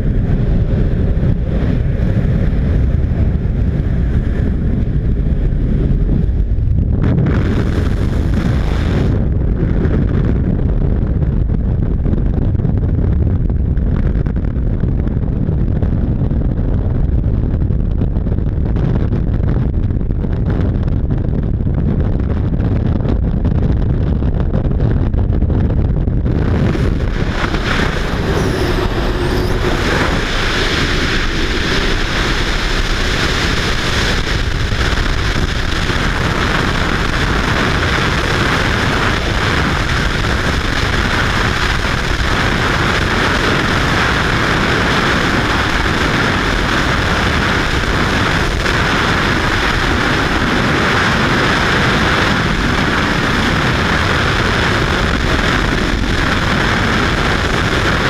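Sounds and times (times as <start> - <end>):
freefall wind rush: 0.0 - 58.0
plane engine rumble: 0.0 - 58.0
wind buffeting microphone: 0.0 - 58.0.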